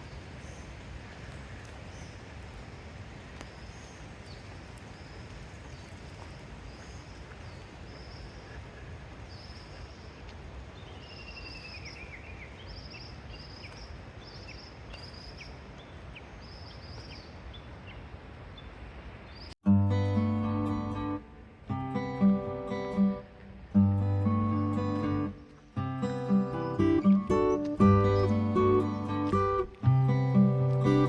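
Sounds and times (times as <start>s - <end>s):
background hiss: 0.0s - 31.0s
birds chirping: 3.4s - 31.0s.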